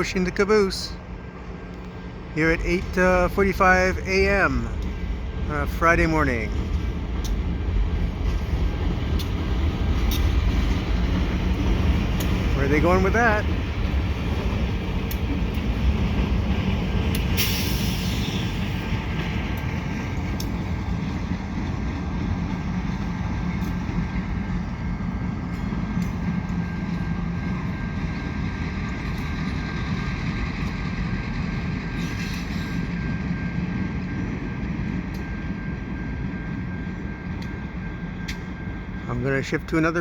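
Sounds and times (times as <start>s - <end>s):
diesel locomotive engine drone: 0.0s - 40.0s
train rolling rumble: 0.0s - 40.0s.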